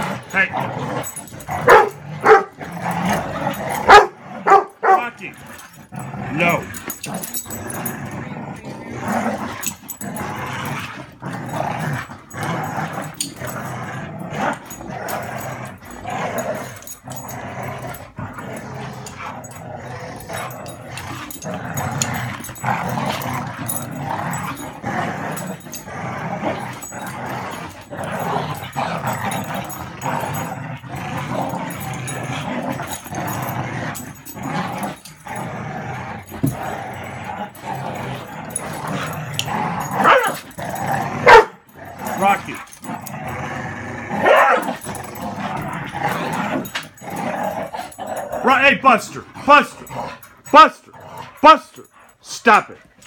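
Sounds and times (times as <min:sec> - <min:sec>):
dogs growling in play: 0:00.0 - 0:53.0.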